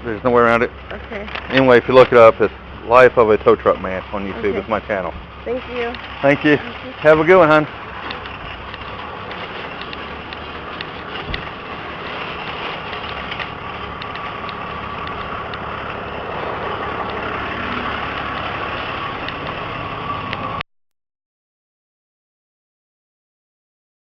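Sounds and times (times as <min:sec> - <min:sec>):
vehicle engine running: 0:00.0 - 0:20.6.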